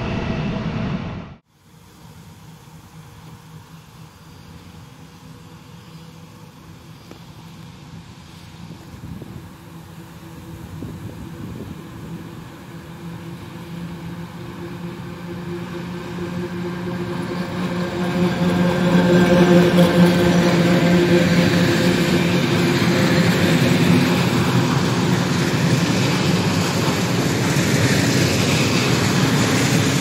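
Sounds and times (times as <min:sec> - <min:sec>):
electric locomotive hum and whine: 0:00.0 - 0:30.0
train wheels rushing on rails: 0:02.5 - 0:30.0.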